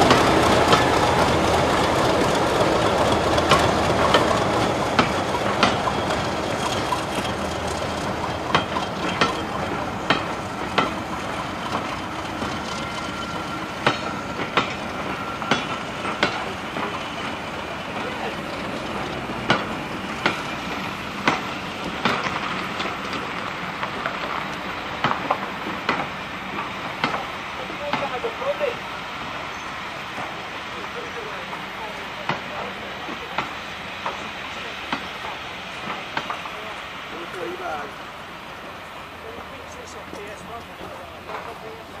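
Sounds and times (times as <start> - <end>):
moving train rumble: 0.0 - 42.0
train wheels clicking over rail joints: 0.0 - 42.0.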